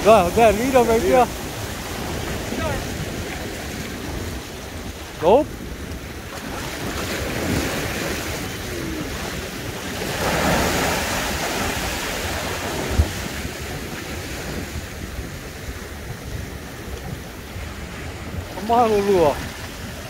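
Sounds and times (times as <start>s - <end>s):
waves washing over rocks: 0.0s - 20.0s
wind buffeting microphone: 0.0s - 20.0s.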